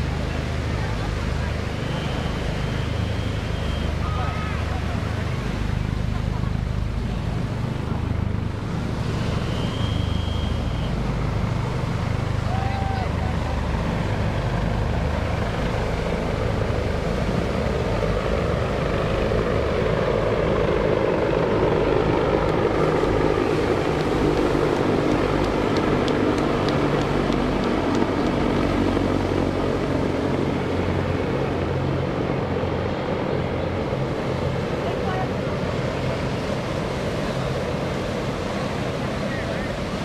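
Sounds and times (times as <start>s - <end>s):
helicopters flying past: 0.0s - 40.0s.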